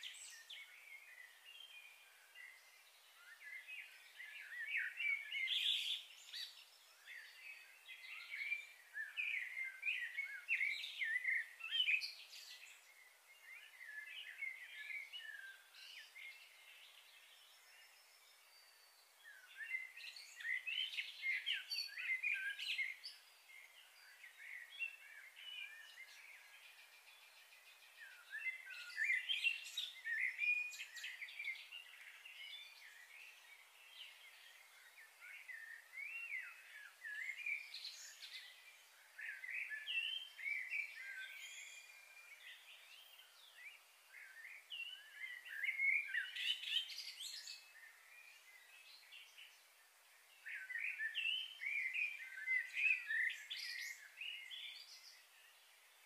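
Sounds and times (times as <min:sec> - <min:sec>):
songbirds chirping and twittering: 0:00.0 - 0:56.0.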